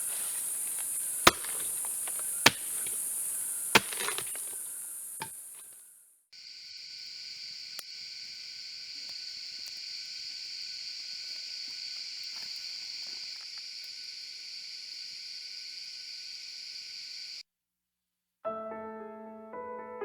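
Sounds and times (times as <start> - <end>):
insects droning: 0.0 - 17.4.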